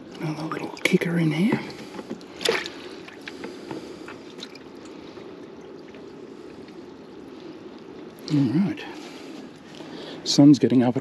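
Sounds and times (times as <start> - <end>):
aerator bubbling in water: 0.0 - 10.3.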